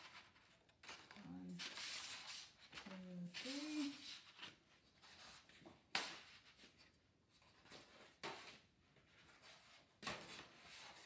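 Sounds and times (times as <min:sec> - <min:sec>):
paper rustle: 0:00.0 - 0:11.0.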